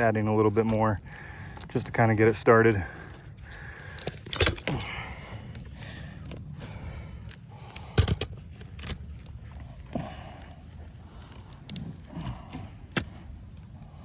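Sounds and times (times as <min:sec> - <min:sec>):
light scraping on shingles: 0:00.0 - 0:14.0
outdoor background noise: 0:00.0 - 0:14.0.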